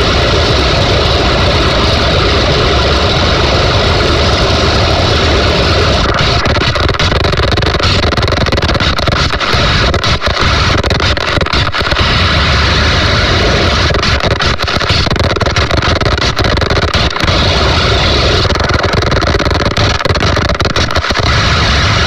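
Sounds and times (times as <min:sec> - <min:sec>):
loud distorted noise: 0:00.0 - 0:22.0.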